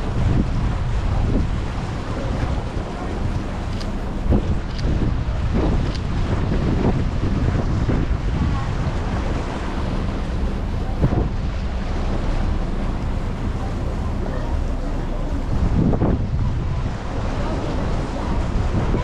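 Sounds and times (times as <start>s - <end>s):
boat engine hum: 0.0s - 19.0s
water washing along hull: 0.0s - 19.0s
wind buffeting microphone: 0.0s - 19.0s.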